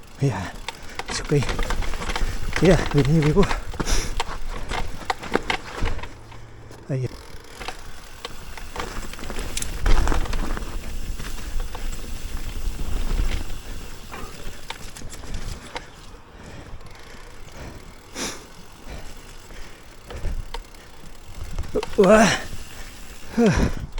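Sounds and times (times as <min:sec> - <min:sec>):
bike knocks and rattles: 0:00.0 - 0:23.9
tyres rumbling on rough trail: 0:00.0 - 0:23.9.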